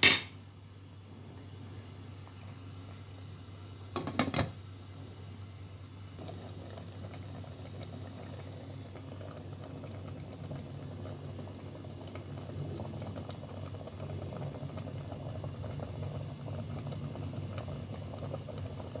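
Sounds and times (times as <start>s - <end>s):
stew boiling and bubbling: 0.0s - 19.0s.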